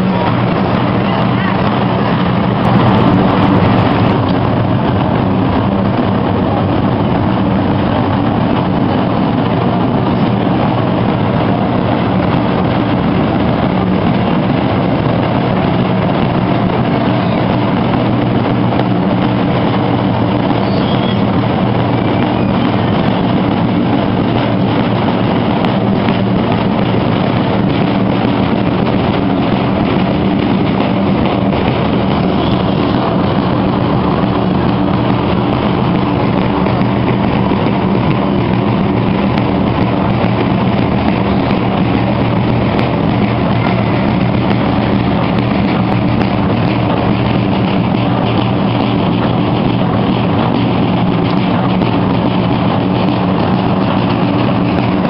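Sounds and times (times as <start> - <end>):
drums playing continuous roll: 0.0 - 55.0.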